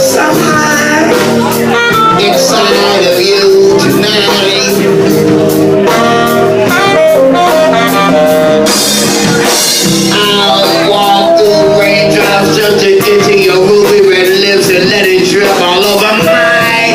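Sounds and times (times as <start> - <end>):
drums and cymbals: 0.0 - 16.9
horn playing melody: 0.0 - 16.9.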